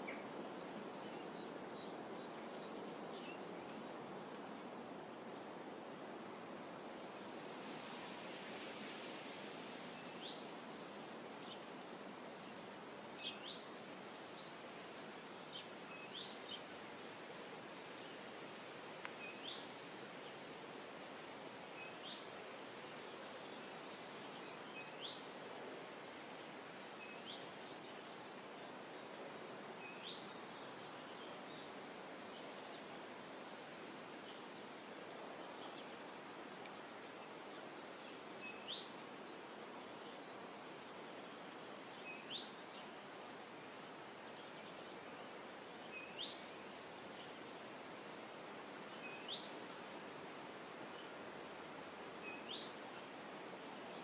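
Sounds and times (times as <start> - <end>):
soft outdoor hiss: 0.0 - 54.0.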